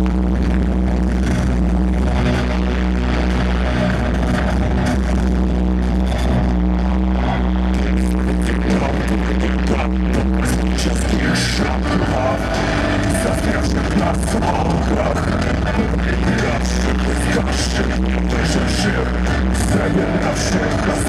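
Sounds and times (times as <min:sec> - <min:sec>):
heavy bass line: 0:00.0 - 0:21.0
loud electronic rock music: 0:00.0 - 0:21.0.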